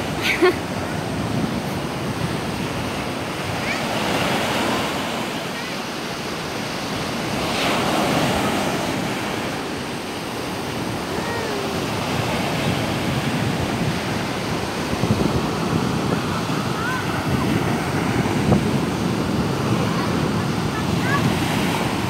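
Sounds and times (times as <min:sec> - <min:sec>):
sea waves breaking on beach: 0:00.0 - 0:22.0.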